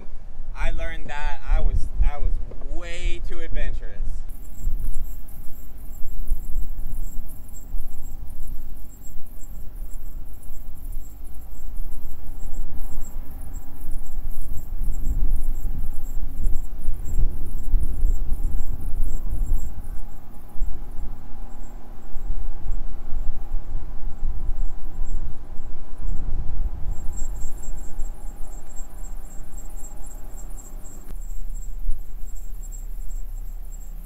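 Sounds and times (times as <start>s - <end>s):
engine rumbling under load: 0.0s - 34.0s
fast high-pitched chirping: 4.3s - 34.0s.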